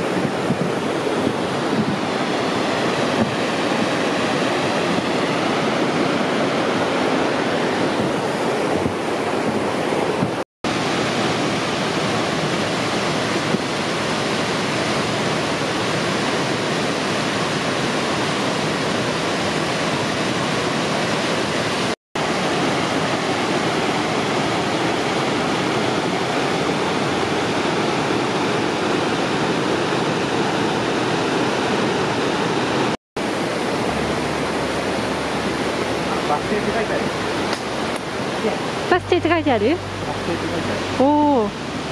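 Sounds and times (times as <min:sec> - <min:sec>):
stream rushing over boulders: 0:00.0 - 0:41.9.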